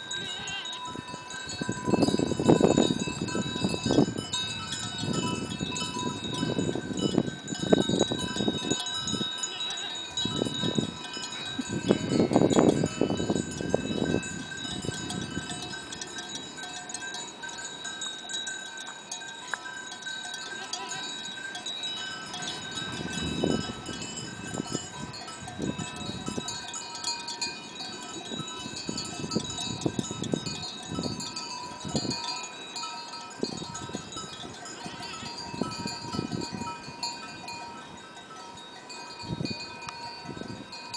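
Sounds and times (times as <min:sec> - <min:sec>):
wind buffeting microphone: 0:00.0 - 0:09.4, 0:10.0 - 0:18.6, 0:21.4 - 0:40.9
goat bells ringing: 0:00.0 - 0:40.9.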